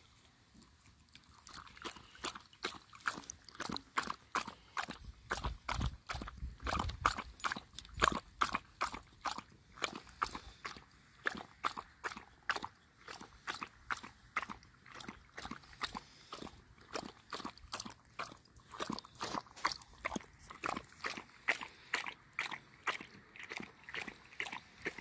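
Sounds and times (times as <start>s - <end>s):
dog lapping water: 0.8s - 25.0s.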